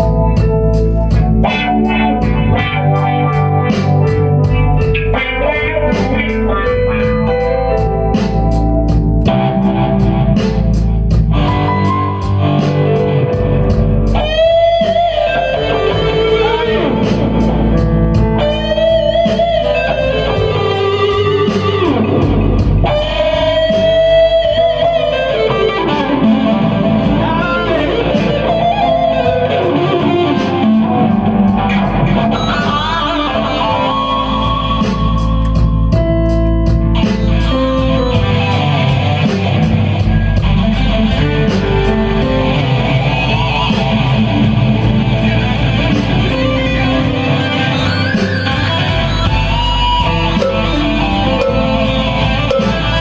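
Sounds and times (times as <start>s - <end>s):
bass guitar: 0.0s - 53.0s
drums with cymbal beat: 0.0s - 53.0s
electric guitar lead: 0.0s - 53.0s.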